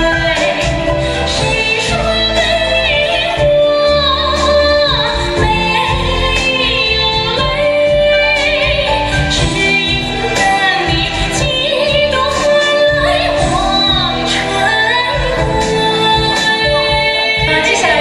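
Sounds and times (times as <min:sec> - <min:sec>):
instrumental accompaniment with beat: 0:00.0 - 0:18.0
woman singing: 0:00.0 - 0:18.0.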